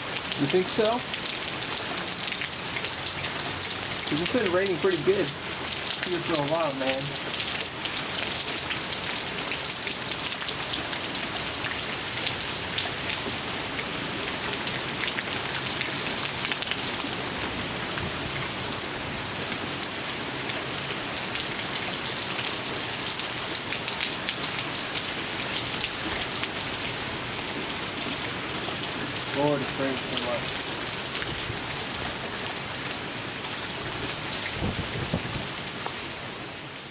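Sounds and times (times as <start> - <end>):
heavy rain pattering: 0.0 - 36.9.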